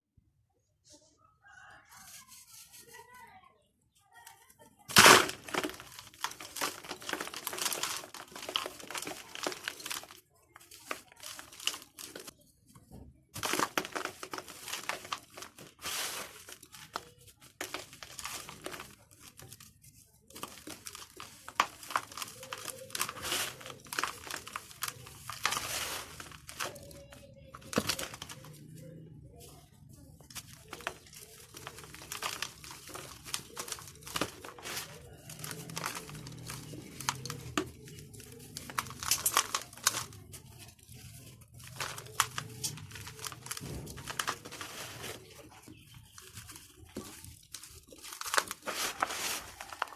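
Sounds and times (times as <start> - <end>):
dry dirt balls crunching: 4.4 - 49.9.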